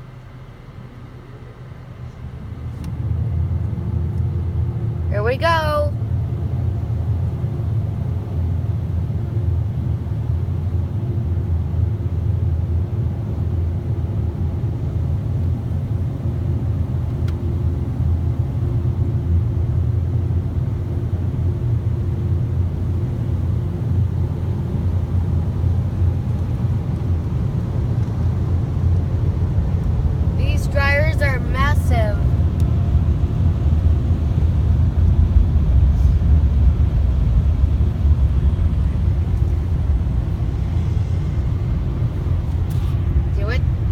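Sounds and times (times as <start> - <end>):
car wash air dryer blowers rumbling: 0.0 - 43.9
faint steady hum: 0.0 - 43.9.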